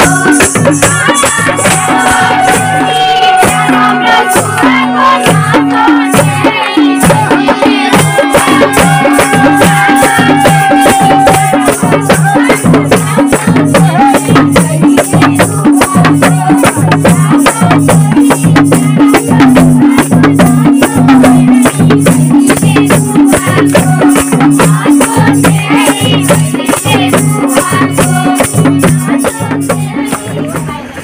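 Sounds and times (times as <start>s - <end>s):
hand drum fast beat: 0.0s - 30.8s
people singing: 0.0s - 31.0s.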